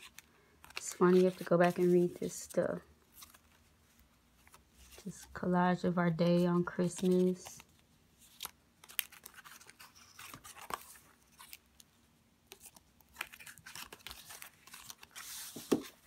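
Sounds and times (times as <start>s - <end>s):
paper pages rustling: 0.0s - 5.6s, 6.3s - 16.0s.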